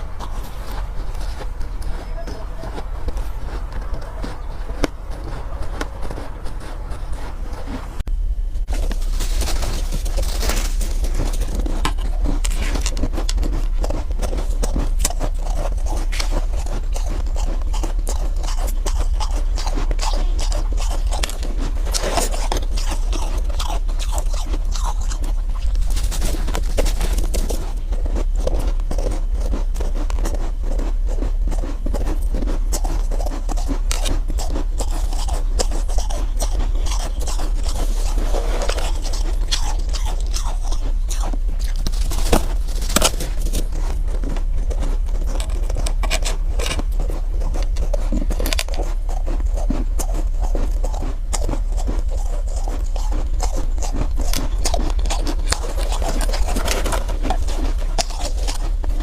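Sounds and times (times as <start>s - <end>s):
ice being crunched and chewed: 0.0s - 59.0s
low hum: 0.0s - 59.0s.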